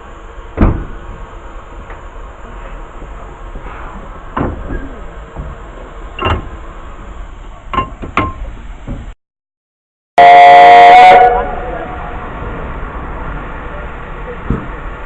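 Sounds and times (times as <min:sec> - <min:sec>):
railway carriage rumbling: 0:00.0 - 0:09.2, 0:10.2 - 0:15.0.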